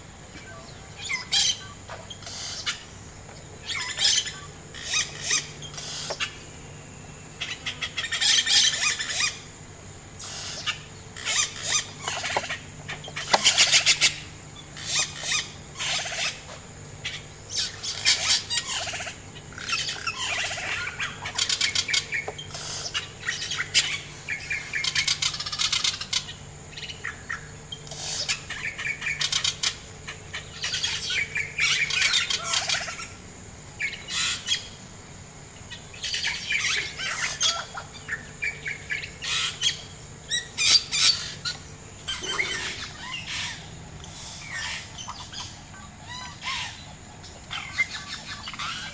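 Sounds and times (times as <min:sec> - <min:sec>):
birds calling and chirping: 0:00.0 - 0:48.9
high-pitched insect drone: 0:00.0 - 0:48.9.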